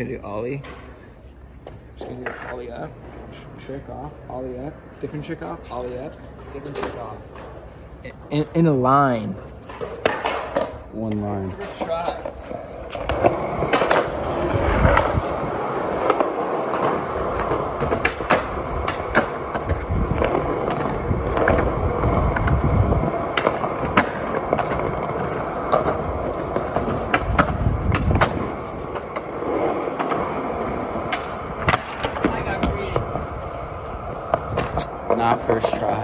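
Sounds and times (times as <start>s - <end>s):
skateboard rolling on concrete: 0.0s - 36.0s
skateboard clacking on ground: 1.5s - 3.0s, 5.2s - 36.0s.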